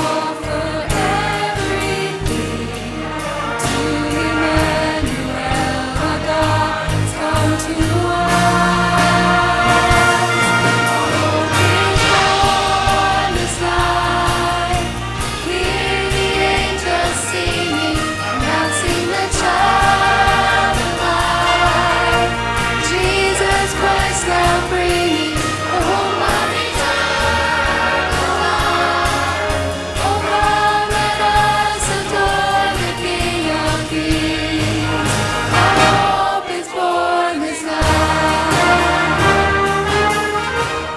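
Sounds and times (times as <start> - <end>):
choir singing a christmas song: 0.0 - 40.9
orchestral accompaniment: 0.0 - 40.9.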